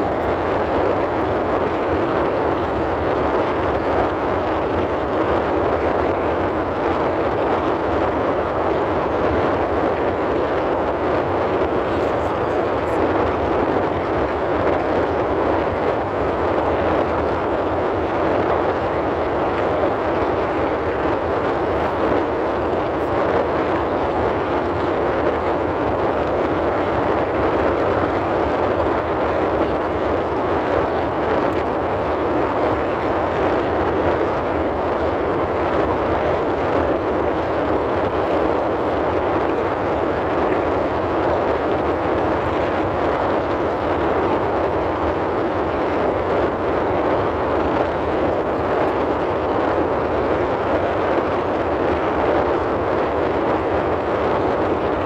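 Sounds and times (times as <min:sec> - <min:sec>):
car ventilation fan blowing: 0:00.0 - 0:55.0.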